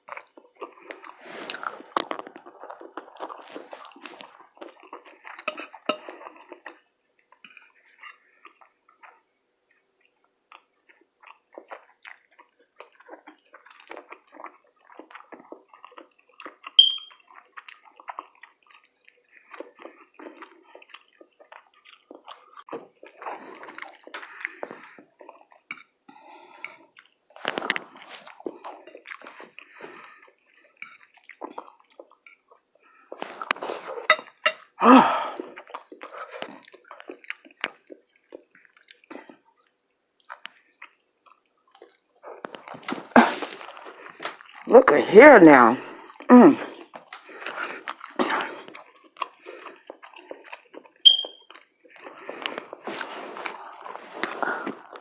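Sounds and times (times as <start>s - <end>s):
person chewing: 0.0s - 44.7s, 45.8s - 55.0s.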